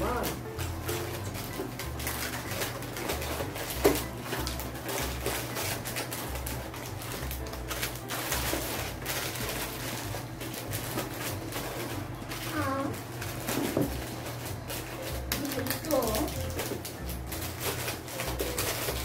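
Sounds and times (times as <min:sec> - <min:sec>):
plastic wrappers crinkling: 0:00.0 - 0:19.0.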